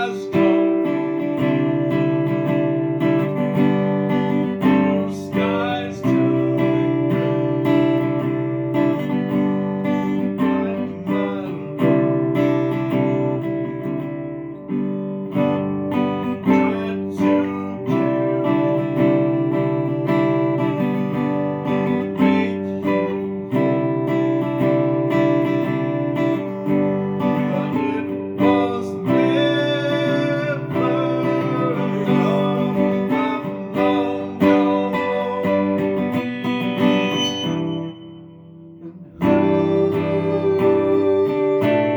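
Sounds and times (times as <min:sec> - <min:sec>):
guitar strumming chords: 0:00.0 - 0:41.9.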